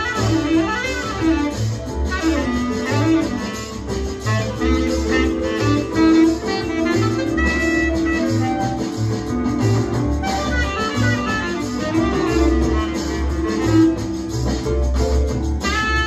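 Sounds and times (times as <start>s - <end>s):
jazz saxophone guitar and bass: 0.0s - 16.0s.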